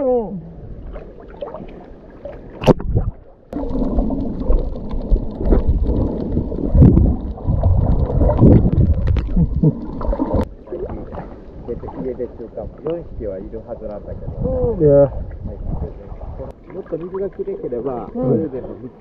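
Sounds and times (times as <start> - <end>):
muffled underwater rumbling: 0.0 - 19.0
water sloshing against camera: 0.0 - 19.0.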